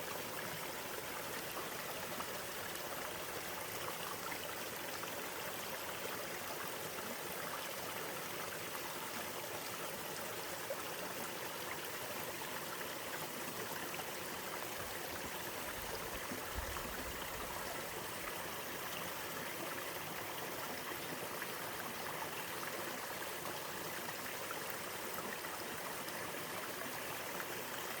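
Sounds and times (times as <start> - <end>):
stream water rushing and splashing: 0.0 - 28.0.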